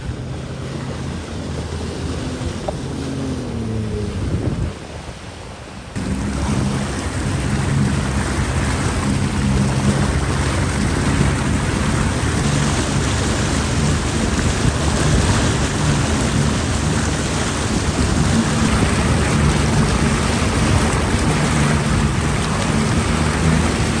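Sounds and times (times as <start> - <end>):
churning wake water: 0.0 - 24.0
motorboat engine running: 0.0 - 24.0.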